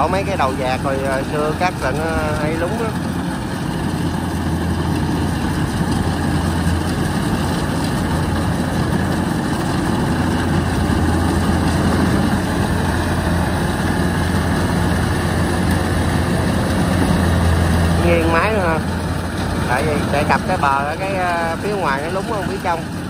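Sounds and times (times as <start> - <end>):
combine harvester engine drone: 0.0 - 23.0.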